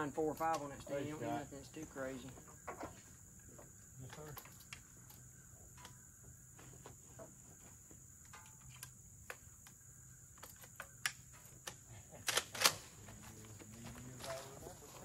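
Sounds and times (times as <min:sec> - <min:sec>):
high buzz of insects: 0:00.0 - 0:15.0.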